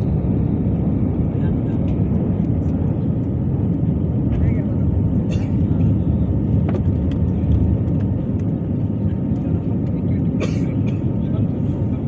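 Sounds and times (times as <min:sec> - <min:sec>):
jet cabin engine and air noise: 0:00.0 - 0:12.0.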